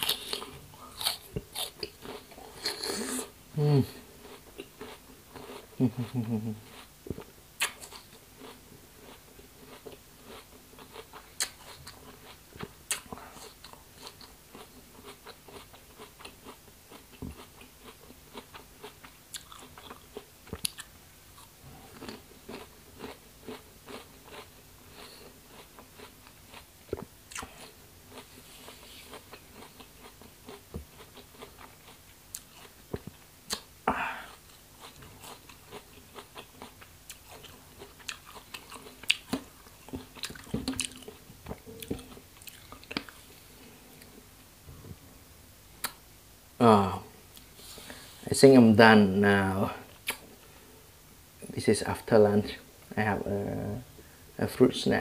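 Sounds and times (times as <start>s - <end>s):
chewing crisp fruit: 0.0s - 44.3s, 49.8s - 50.2s.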